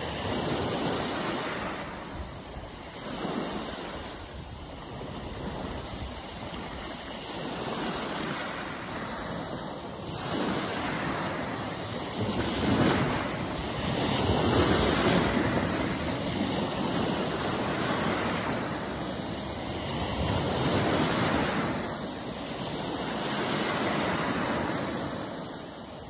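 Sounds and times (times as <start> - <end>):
small waves breaking on shore: 0.0 - 26.0.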